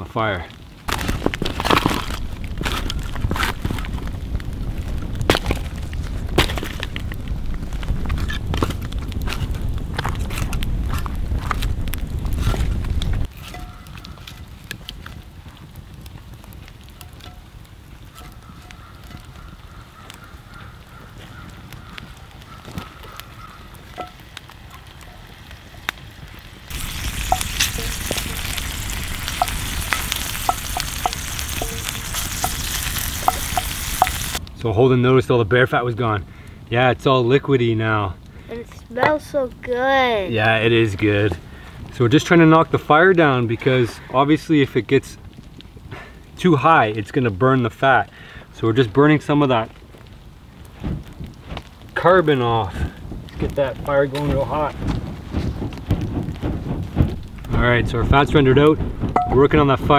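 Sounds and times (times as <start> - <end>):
fat sizzling and popping in skillet: 0.0 - 34.4, 41.9 - 59.9
firewood knocking and cracking: 0.0 - 34.7, 38.3 - 44.2, 49.5 - 59.9.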